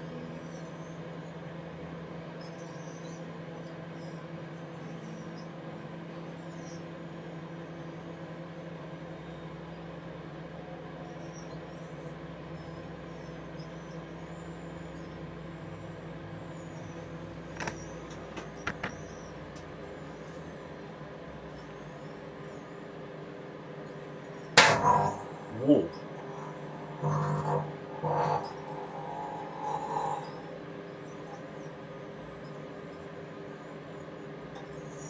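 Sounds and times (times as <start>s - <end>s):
microwave oven humming: 0.0s - 35.0s
faint high squeals and chirps: 2.4s - 10.0s, 10.9s - 35.0s.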